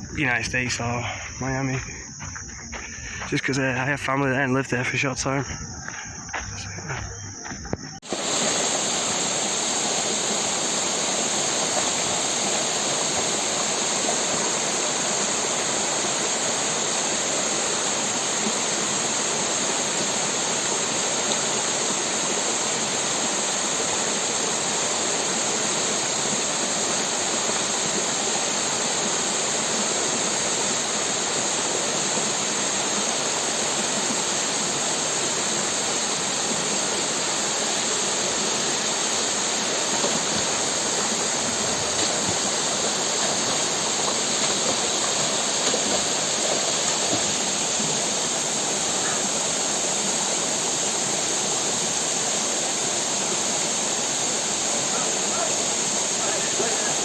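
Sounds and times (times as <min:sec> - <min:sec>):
falling water rushing: 0:08.0 - 0:57.0.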